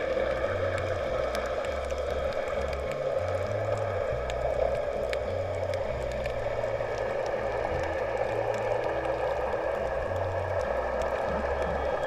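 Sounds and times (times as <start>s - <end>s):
faint clicks: 0.0s - 12.0s
steady hissing wash: 0.0s - 12.0s
ambient music with bass line: 0.2s - 12.0s.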